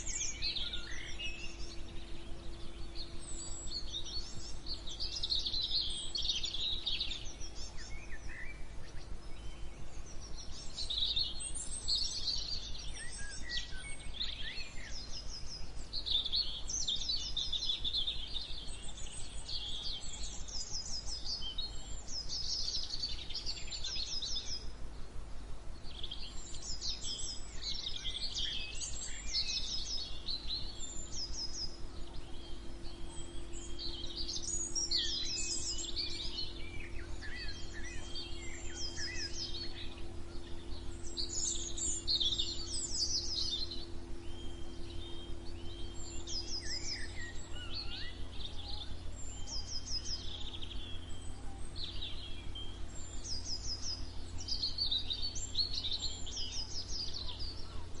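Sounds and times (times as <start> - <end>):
low background hum: 0.0 - 58.0
songbirds singing: 0.0 - 58.0.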